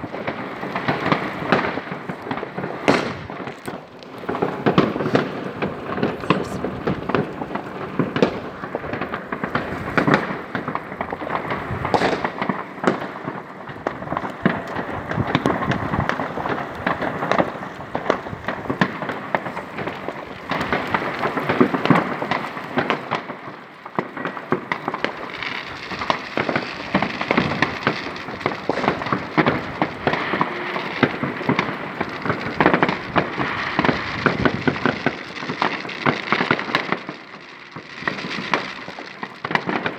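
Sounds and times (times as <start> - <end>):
fireworks bangs and crackling pops: 0.0 - 39.9.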